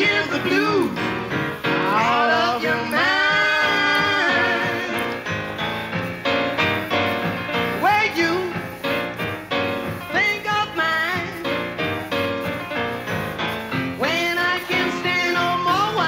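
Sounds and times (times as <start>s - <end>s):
song with singing and beat: 0.0s - 16.0s.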